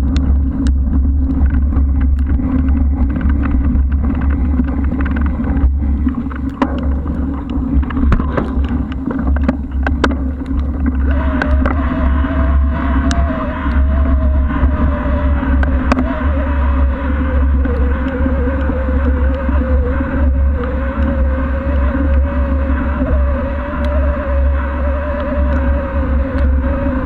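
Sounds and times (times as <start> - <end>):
bicycle clicks and rattles: 0.0 - 26.8
wavering whine: 0.0 - 27.0
wind rumbling on microphone: 0.0 - 27.0.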